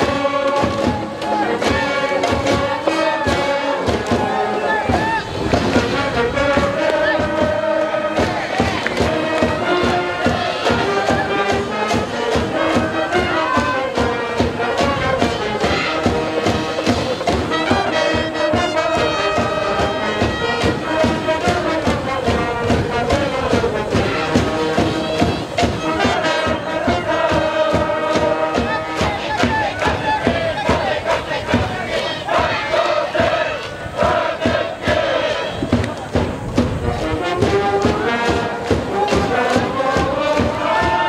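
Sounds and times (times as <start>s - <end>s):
brass band playing: 0.0s - 41.0s
crowd cheering: 0.0s - 41.0s
steady drum beat: 0.0s - 41.0s.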